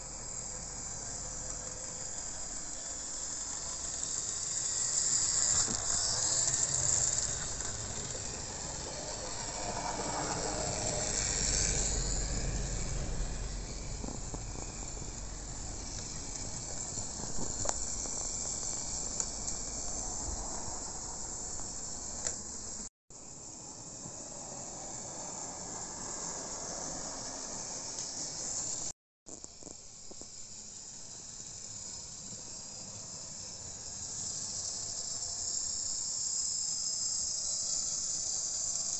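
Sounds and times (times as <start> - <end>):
model train whirring on rails: 0.0 - 28.9, 29.5 - 38.9.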